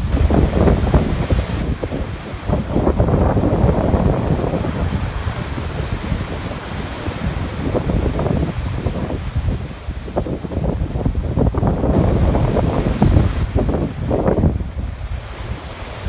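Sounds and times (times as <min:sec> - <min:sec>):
gusty wind on microphone: 0:00.0 - 0:16.0
rough surf: 0:00.0 - 0:16.0.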